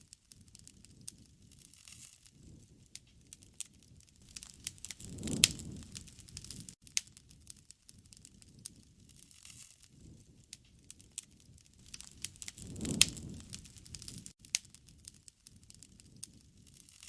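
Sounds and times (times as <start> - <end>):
wood fire crackling and popping: 0.0 - 17.0
rush of flame: 0.6 - 7.4, 8.1 - 17.0.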